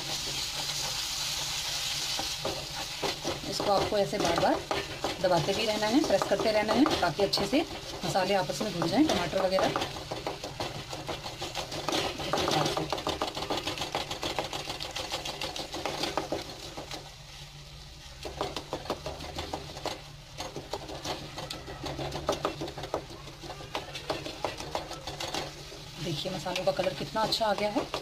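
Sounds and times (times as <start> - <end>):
spatula scraping metal pan: 0.0 - 17.4, 18.2 - 28.0.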